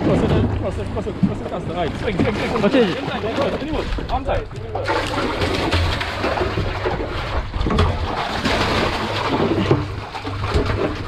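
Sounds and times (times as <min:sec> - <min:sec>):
water splashing around boat: 0:00.0 - 0:11.0.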